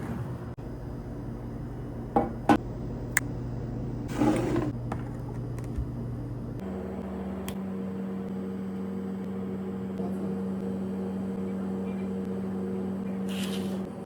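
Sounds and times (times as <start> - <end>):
appliance electrical hum: 0.0 - 14.0.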